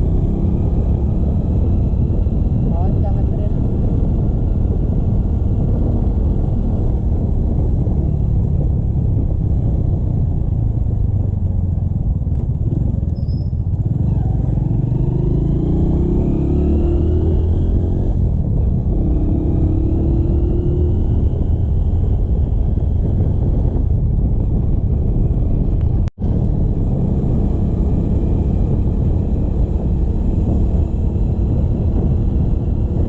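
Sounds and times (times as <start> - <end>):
motorcycle engine accelerating: 0.0 - 33.0
wind rumble: 0.0 - 33.0.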